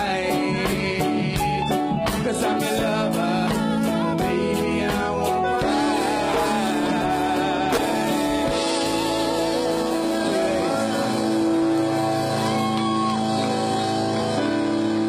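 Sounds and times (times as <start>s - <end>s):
live reggae band playing: 0.0s - 15.0s
person singing: 0.0s - 15.0s.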